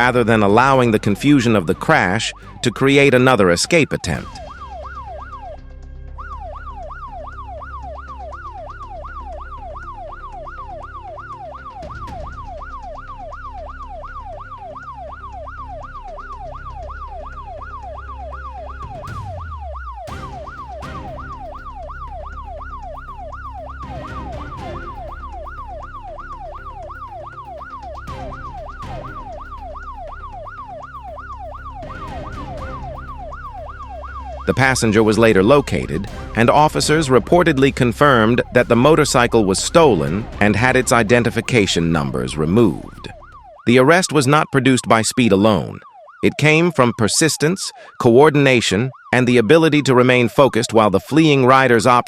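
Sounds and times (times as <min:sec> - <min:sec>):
police siren wailing: 0:00.0 - 0:52.0.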